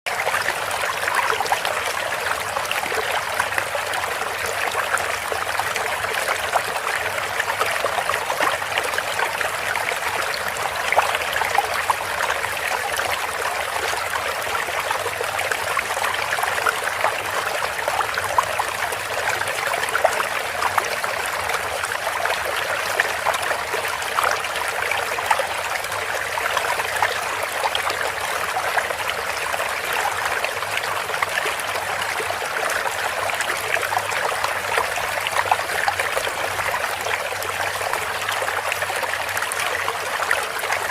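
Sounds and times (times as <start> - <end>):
stream trickling and splashing: 0.1 - 40.9.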